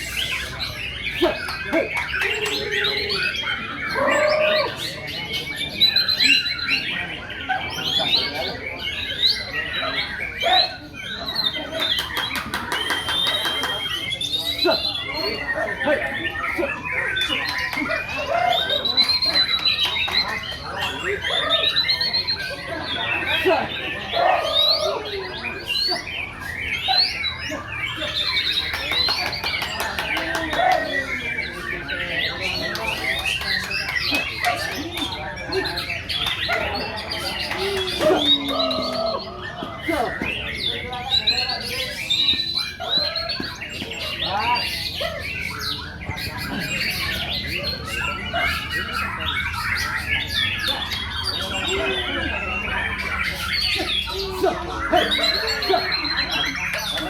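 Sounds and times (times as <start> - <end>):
birds singing fast whistles and chirps: 0.0 - 57.0.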